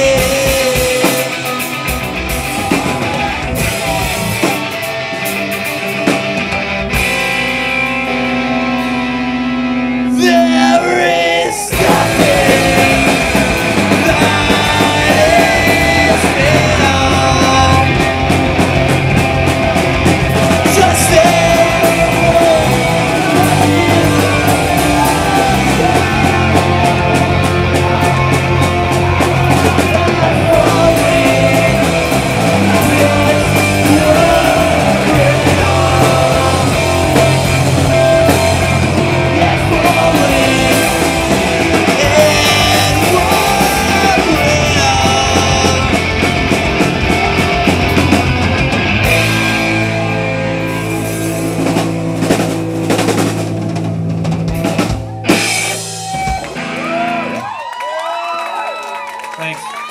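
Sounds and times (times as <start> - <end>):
live rock band playing: 0.0 - 58.6.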